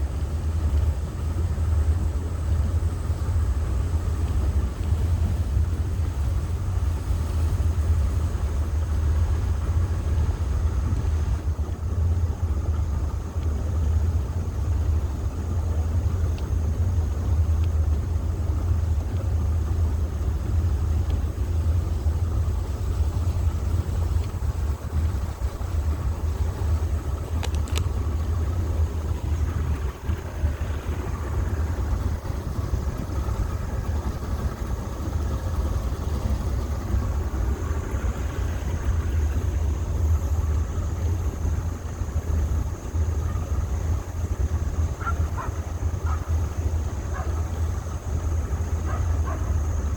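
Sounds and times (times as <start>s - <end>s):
boat engine rumbling: 0.0s - 49.9s.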